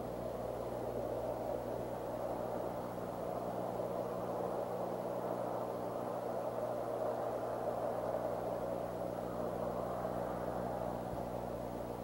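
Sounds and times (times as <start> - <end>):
low electrical hum: 0.0 - 12.0
steady rushing noise: 0.0 - 12.0.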